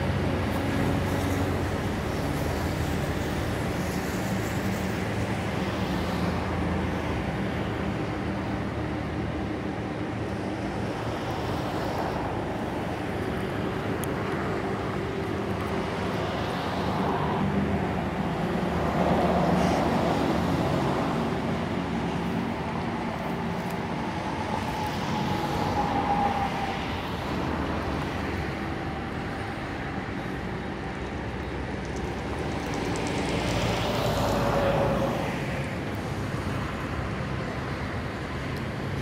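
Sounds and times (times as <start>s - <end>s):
jet engine whine overhead: 0.0s - 39.0s
road traffic: 0.0s - 39.0s.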